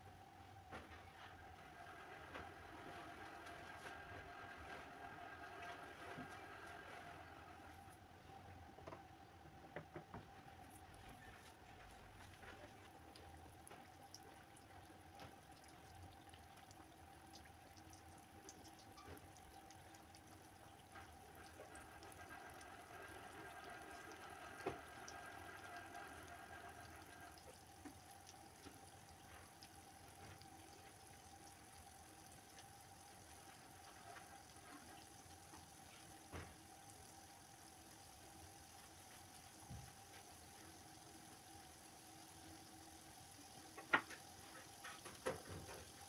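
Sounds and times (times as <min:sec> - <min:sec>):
dough deep-frying in oil: 0:00.0 - 0:46.0.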